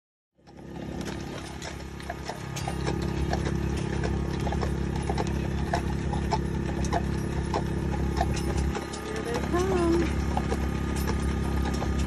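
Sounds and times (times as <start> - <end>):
hooves clip-clopping: 0.4 - 12.0
low rumble and hum: 0.4 - 12.0
wagon rattling and clicking: 0.5 - 12.0.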